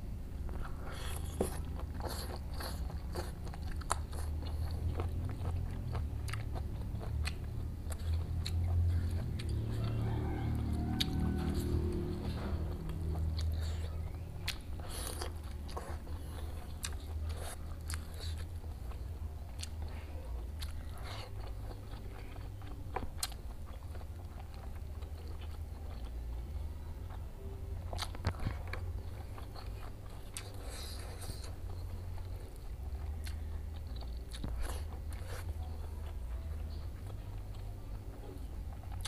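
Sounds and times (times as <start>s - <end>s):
steady low hum: 0.0s - 39.0s
person chewing crunchy food: 0.4s - 39.0s.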